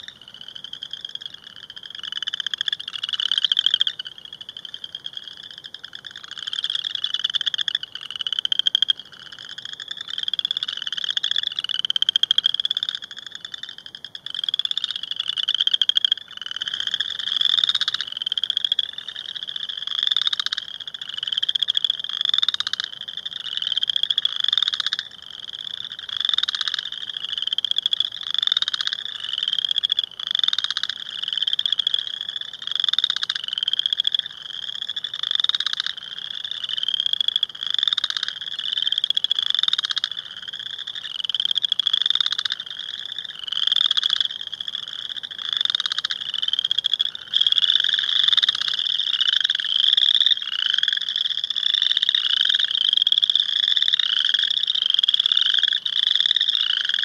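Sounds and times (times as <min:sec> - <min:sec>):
chorus frogs trilling: 0:00.0 - 0:57.0.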